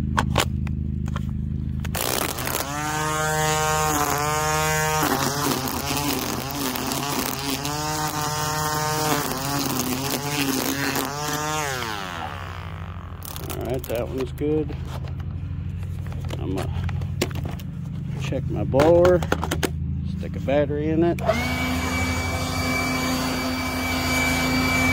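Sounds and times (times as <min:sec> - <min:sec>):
string trimmer motor whine: 0:00.0 - 0:19.3, 0:21.0 - 0:24.9.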